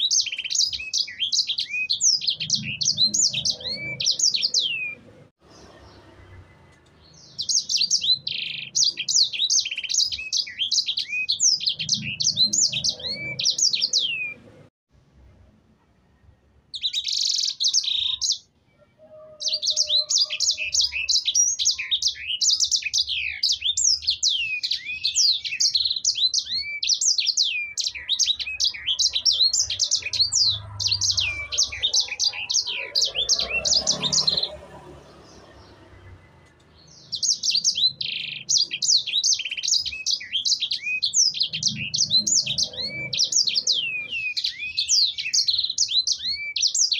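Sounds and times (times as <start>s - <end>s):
songbird singing high chirps: 0.0s - 14.5s, 16.7s - 46.9s.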